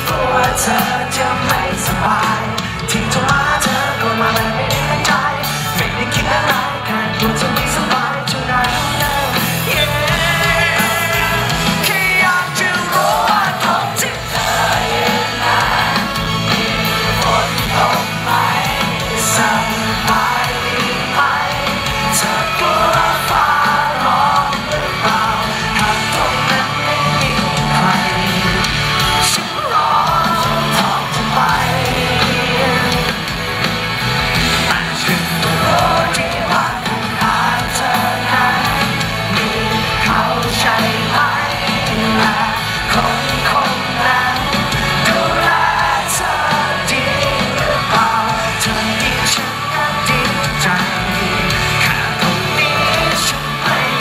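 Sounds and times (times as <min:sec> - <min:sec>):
man singing into a microphone: 0:00.0 - 0:33.7, 0:34.4 - 0:54.0
live band playing: 0:00.0 - 0:54.0.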